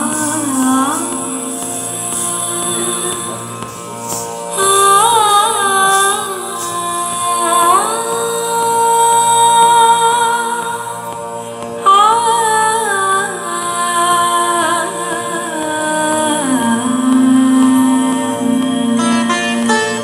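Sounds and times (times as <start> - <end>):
instrumental drone: 0.0 - 20.0
woman singing ornamented phrases: 0.0 - 20.0.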